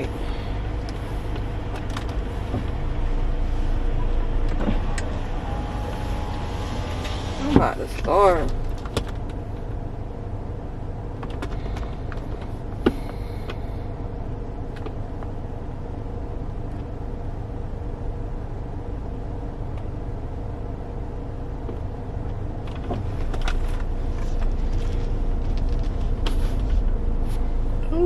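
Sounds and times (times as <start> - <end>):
idling car hum: 0.0 - 28.0.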